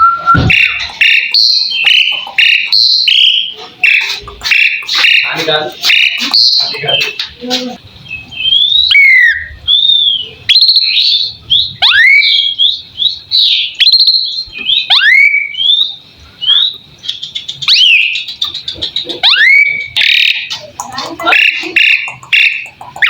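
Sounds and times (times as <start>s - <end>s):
starling whistling and chirping: 0.0s - 7.3s, 8.0s - 23.0s.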